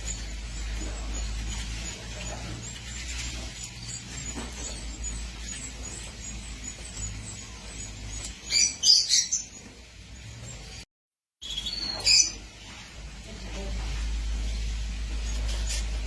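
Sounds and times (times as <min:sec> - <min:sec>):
steady low hum: 0:00.0 - 0:10.8, 0:12.3 - 0:16.0
small birds chirping: 0:00.0 - 0:16.0.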